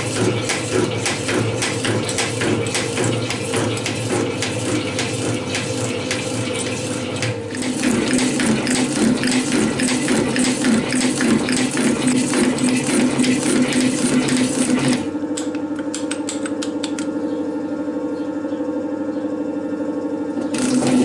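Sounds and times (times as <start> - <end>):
metal shaper running: 0.0 - 16.6, 20.4 - 21.0
milling machine running: 0.0 - 18.0, 19.5 - 21.0.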